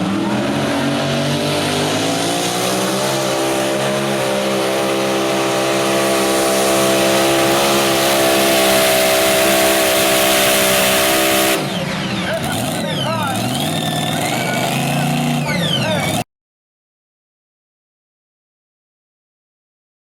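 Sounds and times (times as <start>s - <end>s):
tractor engine at full throttle: 0.0s - 16.2s.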